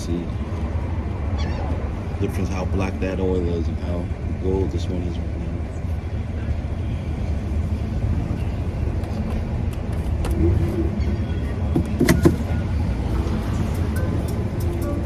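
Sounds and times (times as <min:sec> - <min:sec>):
low rumble of vehicles: 0:00.0 - 0:15.0.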